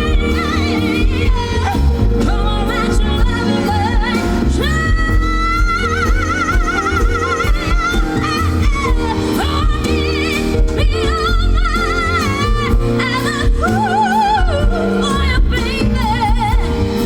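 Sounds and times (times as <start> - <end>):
live band playing soul ballad: 0.0 - 17.0.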